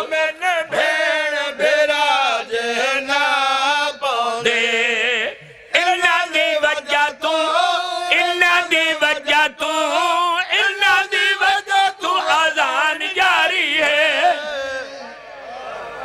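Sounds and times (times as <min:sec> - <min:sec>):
man chanting into a microphone: 0:00.0 - 0:15.2.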